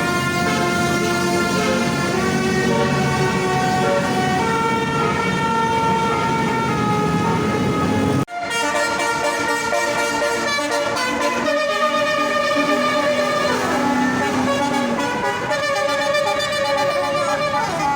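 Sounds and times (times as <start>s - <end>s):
multi-tone bus air horn tune: 0.0s - 17.9s.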